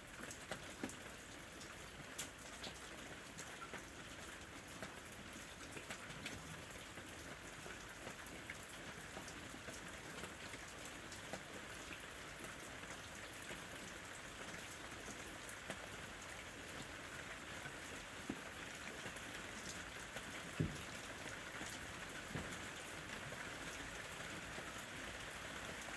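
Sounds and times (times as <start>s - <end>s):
rain falling: 0.0s - 25.9s
raindrops ticking: 0.1s - 25.9s.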